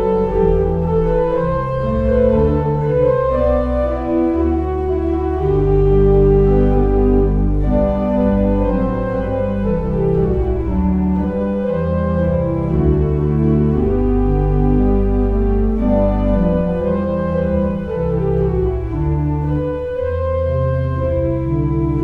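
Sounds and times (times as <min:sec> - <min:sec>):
organ playing slow chords: 0:00.0 - 0:22.0.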